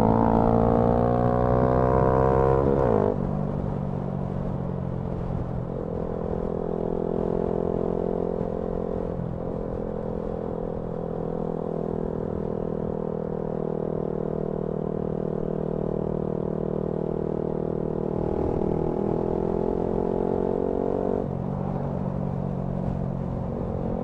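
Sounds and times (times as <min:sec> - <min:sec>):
motorcycle engine accelerating: 0:00.0 - 0:03.6, 0:05.9 - 0:24.0.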